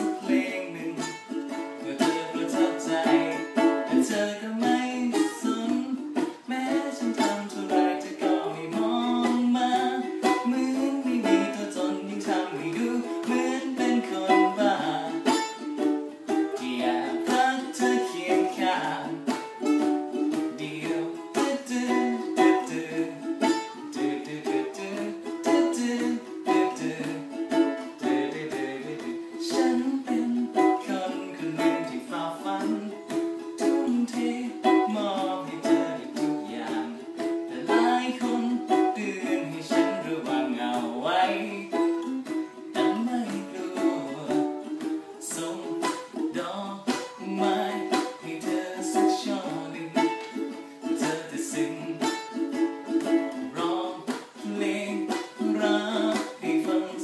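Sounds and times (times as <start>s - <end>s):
man singing: 0.0s - 57.0s
ukulele strumming: 0.0s - 57.0s.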